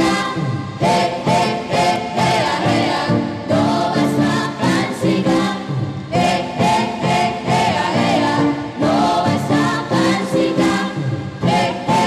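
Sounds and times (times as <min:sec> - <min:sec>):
choir singing a hymn: 0:00.0 - 0:12.0
instrumental accompaniment: 0:00.0 - 0:12.0.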